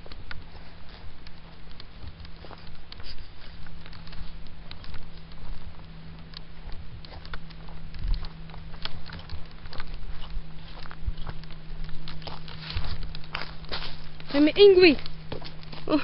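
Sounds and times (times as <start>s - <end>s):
footsteps on dry leaves and twigs: 0.0s - 16.0s
steady low hum: 0.0s - 16.0s.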